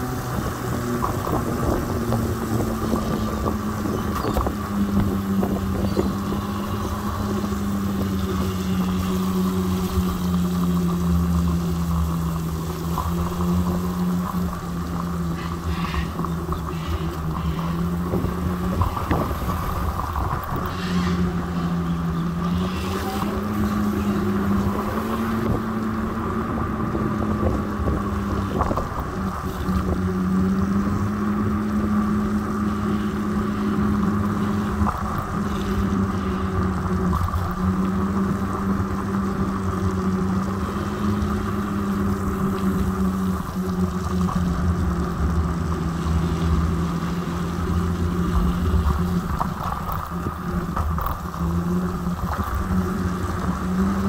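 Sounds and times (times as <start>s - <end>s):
electric scooter motor humming: 0.0s - 54.0s
tyres rumbling on road: 0.0s - 54.0s
wind buffeting microphone: 0.0s - 54.0s.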